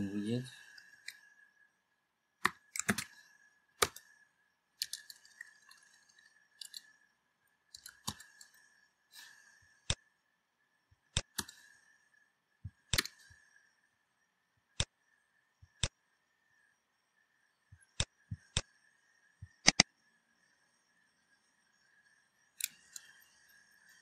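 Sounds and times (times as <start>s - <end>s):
faint high-pitched whine: 0.0s - 24.0s.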